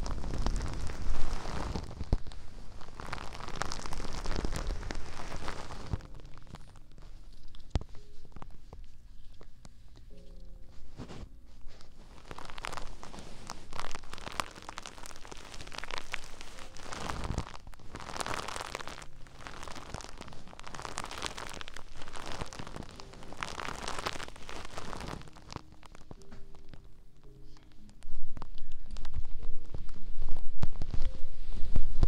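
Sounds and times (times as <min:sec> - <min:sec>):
hands rubbing fleece fabric: 0:00.2 - 0:26.0.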